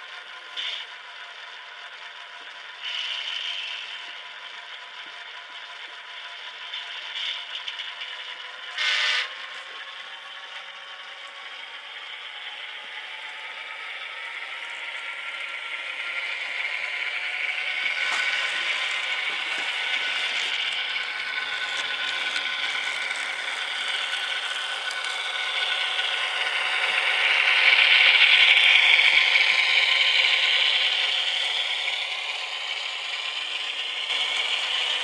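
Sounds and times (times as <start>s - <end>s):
diesel engine sound through tiny speaker: 0.0s - 35.0s.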